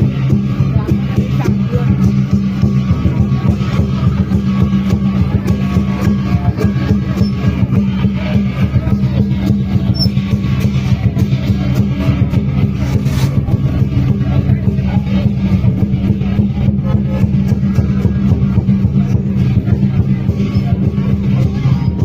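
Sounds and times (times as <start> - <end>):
loud music with fast beat: 0.0 - 22.0.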